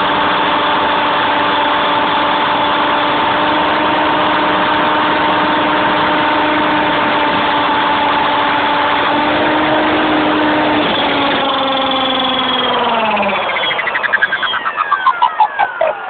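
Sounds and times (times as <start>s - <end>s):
rc helicopter rotor whine: 0.0s - 16.0s.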